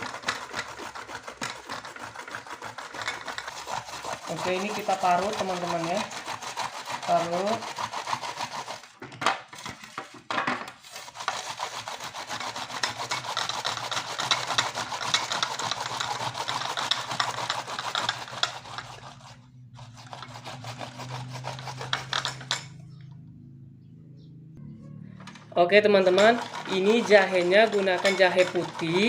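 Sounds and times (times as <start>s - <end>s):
ginger grated on hand grater: 0.0s - 9.0s, 10.8s - 22.7s, 25.8s - 29.0s.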